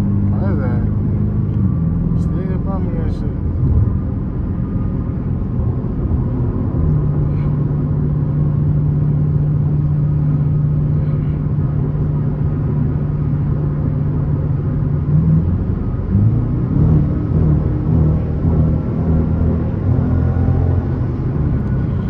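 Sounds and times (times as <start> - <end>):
car engine drone at cruise: 0.0 - 22.0
road rumble: 0.0 - 22.0.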